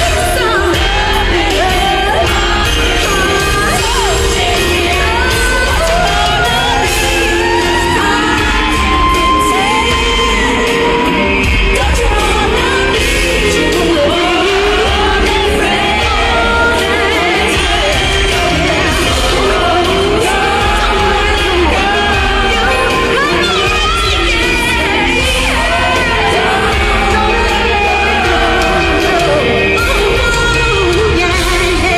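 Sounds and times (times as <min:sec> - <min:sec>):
crowd shouting and whooping: 0:00.0 - 0:31.9
female vocal group singing pop: 0:00.0 - 0:31.9
heavy bass backing: 0:00.0 - 0:31.9.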